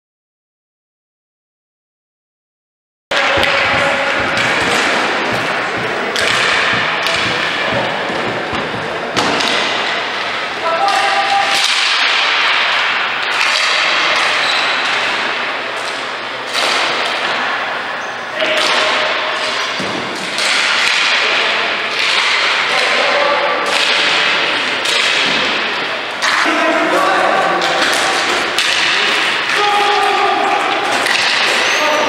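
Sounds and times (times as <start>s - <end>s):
sticks and ball knocking boards: 3.1s - 17.4s, 18.4s - 31.9s
players' voices and shouts: 3.1s - 19.7s, 20.6s - 32.0s
steady noisy din: 3.1s - 32.0s.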